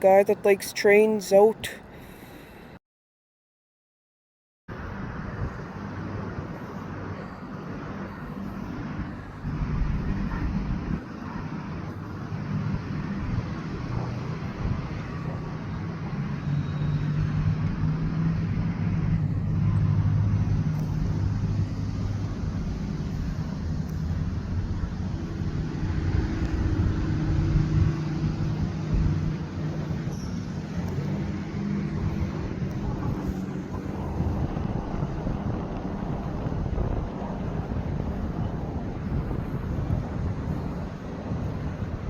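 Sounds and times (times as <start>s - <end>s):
diesel locomotive engine humming: 5.7s - 42.0s.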